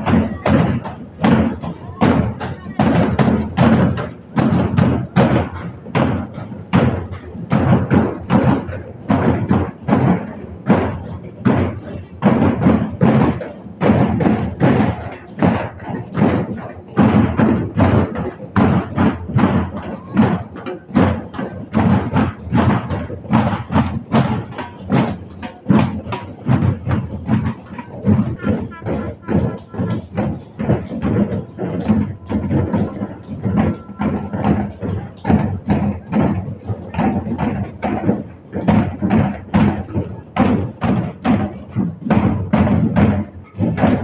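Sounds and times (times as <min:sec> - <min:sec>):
drums beaten with sticks: 0:00.0 - 0:44.0.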